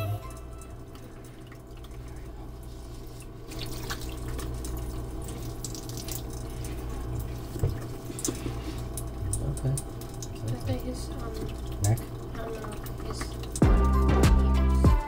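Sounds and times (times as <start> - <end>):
water trickling into tub: 0.0 - 14.2
low steady hum: 0.0 - 15.0.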